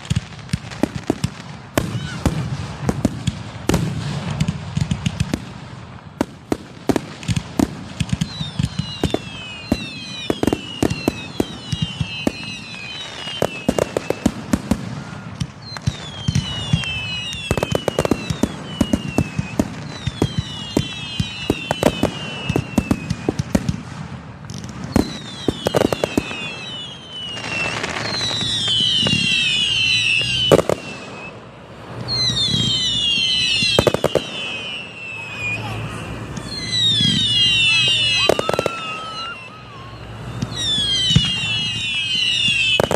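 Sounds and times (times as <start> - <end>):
falling fireworks whistles: 0.0 - 42.9
fireworks bangs and pops: 0.0 - 42.9.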